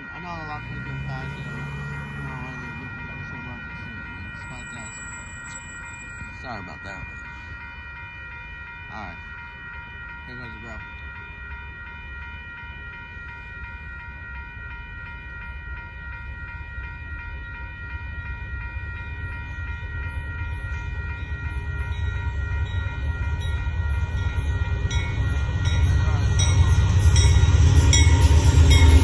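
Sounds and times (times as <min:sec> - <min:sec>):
freight train rumble: 0:00.0 - 0:29.0
railroad crossing bell ringing: 0:00.0 - 0:29.0.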